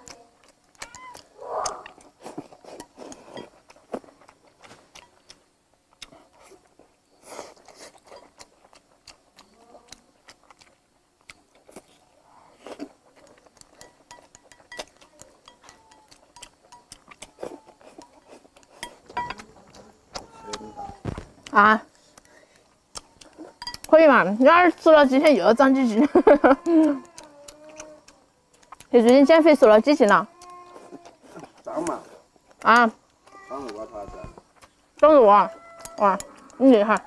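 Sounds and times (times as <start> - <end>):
person chewing food: 0.0 - 24.5, 26.0 - 37.0.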